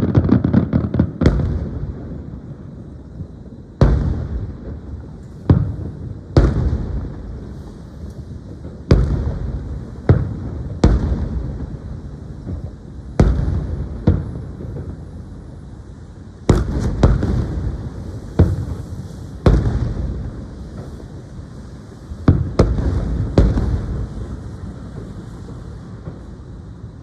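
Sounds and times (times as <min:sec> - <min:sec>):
fireworks booming: 0:00.0 - 0:27.0.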